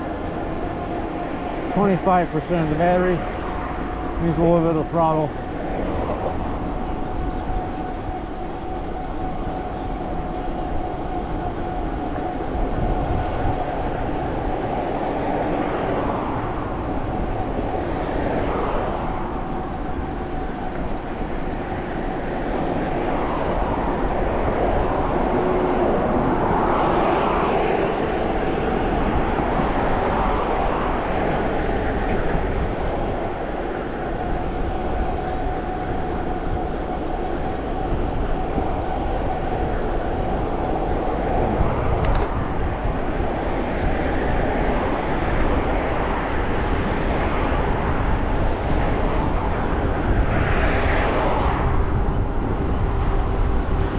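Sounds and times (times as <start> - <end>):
vehicle road and wind noise: 0.0 - 53.9.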